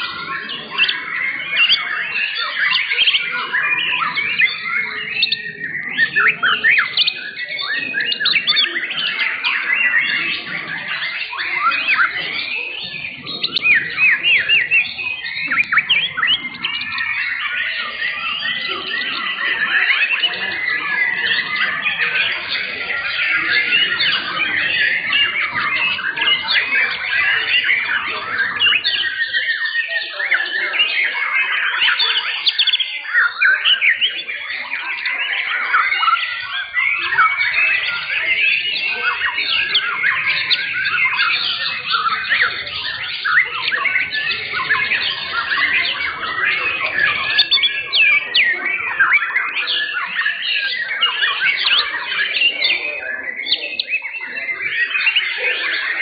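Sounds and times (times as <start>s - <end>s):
birds singing chorus: 0.0s - 56.0s.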